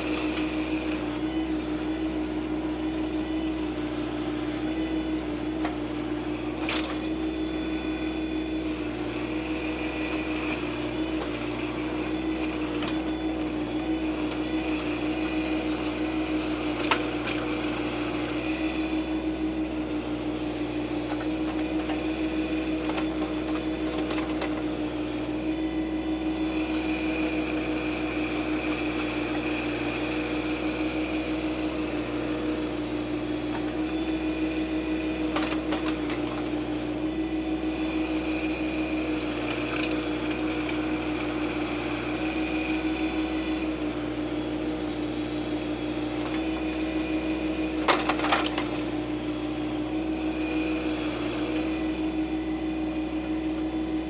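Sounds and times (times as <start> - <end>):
high-pitched whine: 0.0 - 45.6.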